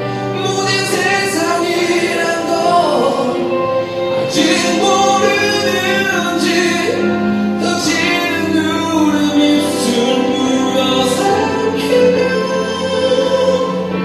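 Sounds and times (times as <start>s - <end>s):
song with singing: 0.0s - 14.0s.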